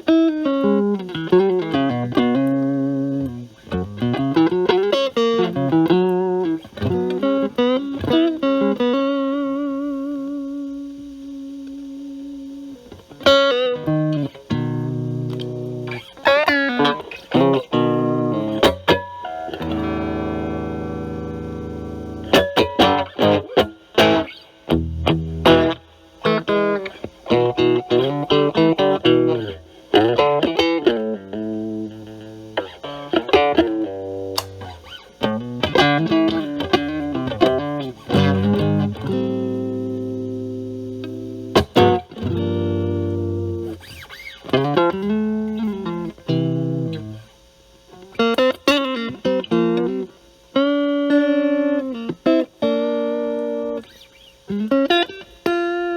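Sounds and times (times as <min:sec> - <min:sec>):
overdriven electric guitar lead: 0:00.0 - 0:55.9.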